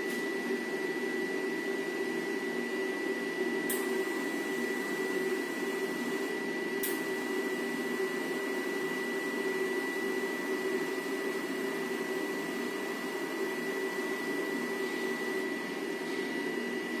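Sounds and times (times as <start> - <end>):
machine whirring hum: 0.0 - 17.0.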